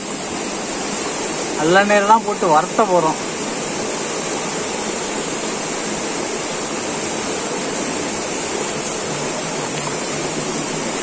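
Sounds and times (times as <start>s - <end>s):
rushing hiss: 0.0s - 11.0s.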